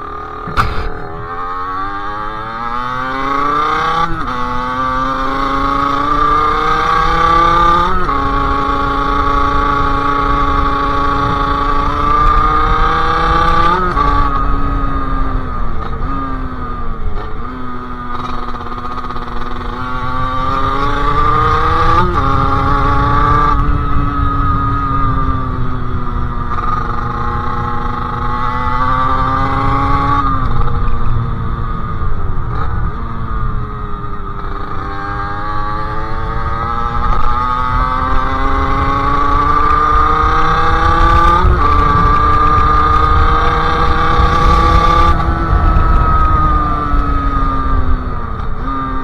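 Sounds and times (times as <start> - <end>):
two-stroke motorcycle engine: 0.0 - 49.0.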